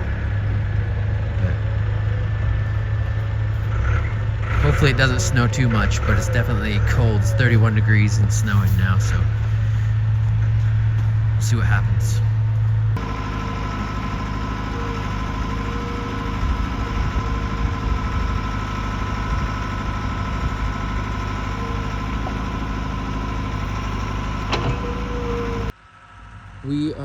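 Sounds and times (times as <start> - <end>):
engine idling: 0.0 - 27.0
steady whine: 0.0 - 27.0.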